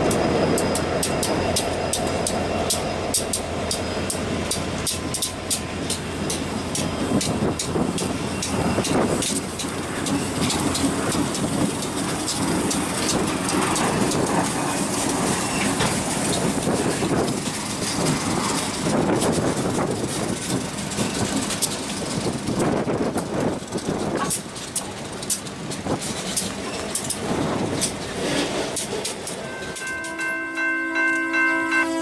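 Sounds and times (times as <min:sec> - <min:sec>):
wheel clicks over rail joints: 0:00.0 - 0:30.2
diesel locomotive engines: 0:00.0 - 0:32.0.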